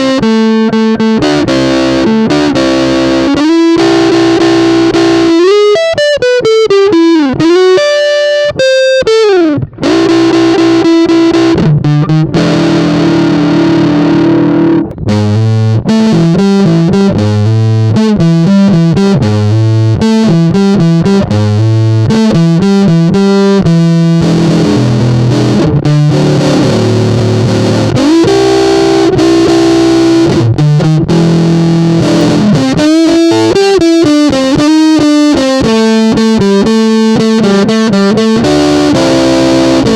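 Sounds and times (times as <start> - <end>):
fuzz electric guitar licks: 0.0 - 39.9.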